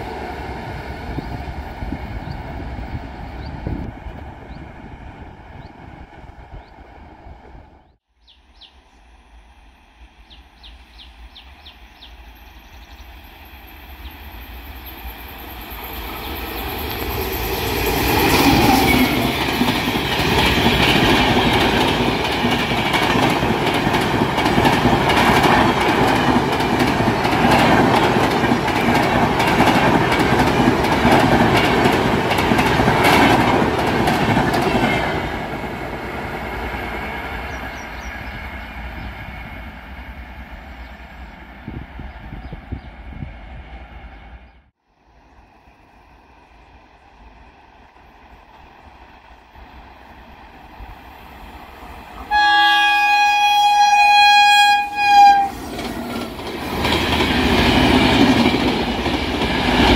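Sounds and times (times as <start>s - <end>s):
train rumble: 0.0s - 8.0s, 8.6s - 59.9s.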